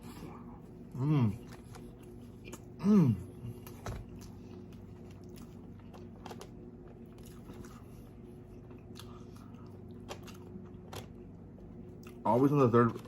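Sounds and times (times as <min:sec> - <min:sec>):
chewing and biting food: 0:00.0 - 0:13.0
steady low hum: 0:00.0 - 0:13.0.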